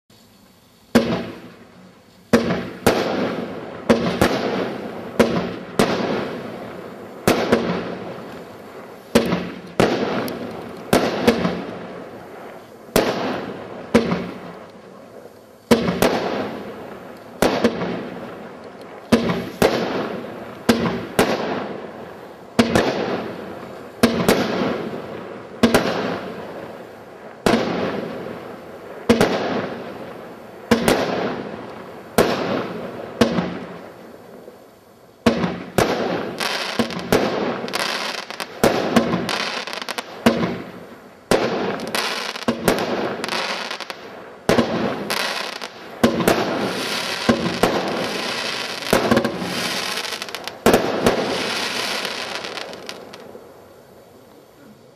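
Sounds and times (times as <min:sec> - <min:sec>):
fireworks firing sharp reports: 0:00.9 - 0:34.6, 0:35.2 - 0:53.6.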